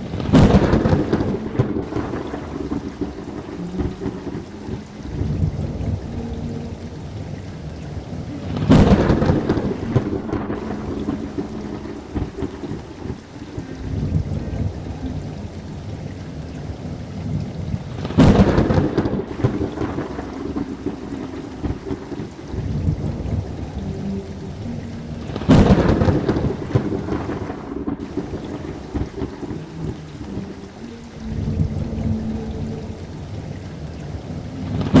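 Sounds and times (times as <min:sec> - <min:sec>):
steady rain: 0:00.0 - 0:35.0
thunderclaps rumbling: 0:00.0 - 0:35.0.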